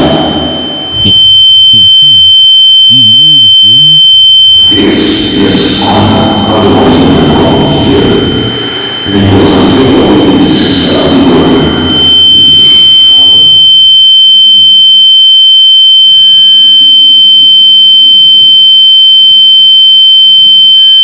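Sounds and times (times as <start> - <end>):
high-pitched electronic tone: 0.0 - 21.0.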